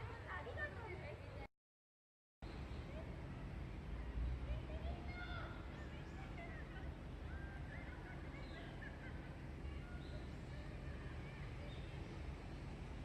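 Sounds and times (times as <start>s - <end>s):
birds chirping: 2.4s - 13.0s
low background rumble: 2.4s - 13.0s.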